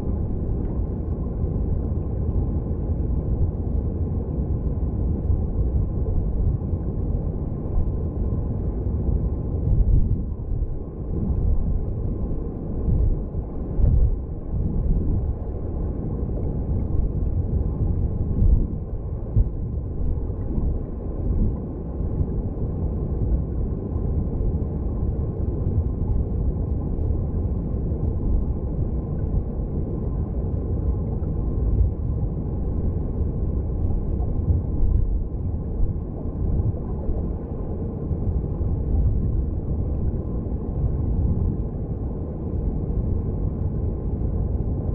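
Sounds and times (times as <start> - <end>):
muffled underwater stream rumble: 0.0 - 44.9.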